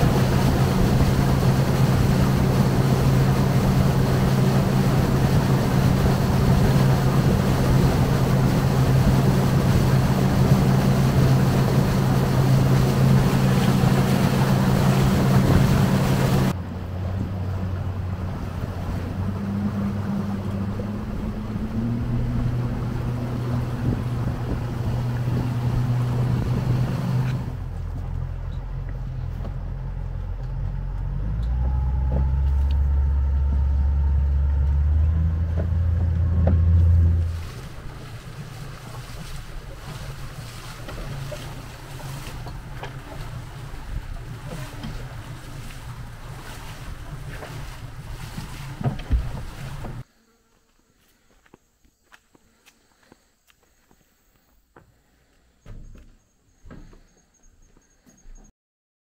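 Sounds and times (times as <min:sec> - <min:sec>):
deep drone: 0:00.0 - 0:50.0
outboard motor running: 0:00.0 - 0:50.1
wind and water rushing: 0:00.0 - 0:50.1.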